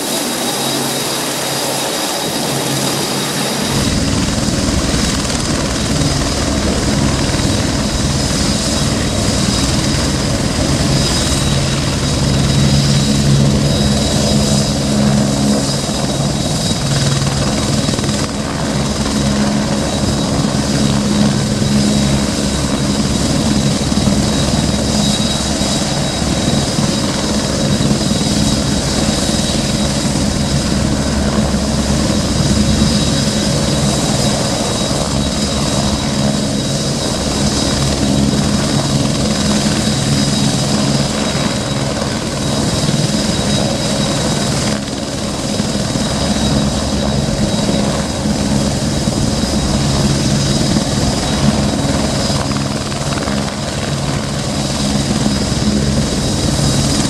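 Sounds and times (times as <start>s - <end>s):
helicopter turbine whine: 0.0s - 57.0s.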